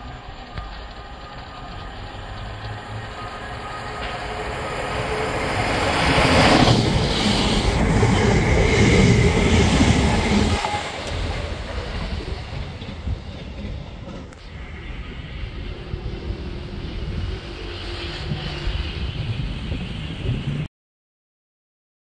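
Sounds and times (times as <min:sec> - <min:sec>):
train wheels rumbling on rail: 0:00.0 - 0:20.7.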